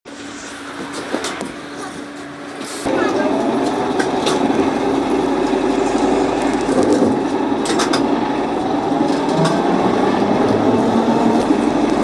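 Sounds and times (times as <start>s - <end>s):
trolleybus rumble: 0.1s - 12.0s.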